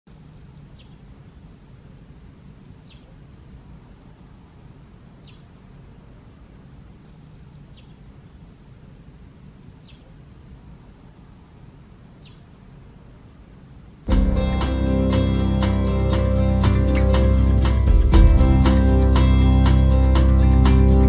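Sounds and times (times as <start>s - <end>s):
low background rumble: 0.1s - 21.0s.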